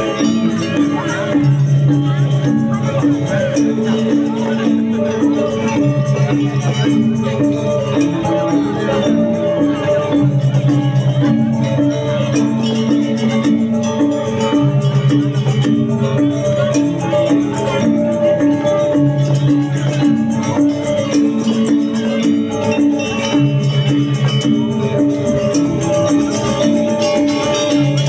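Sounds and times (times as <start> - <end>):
gamelan ensemble playing: 0.0 - 28.0.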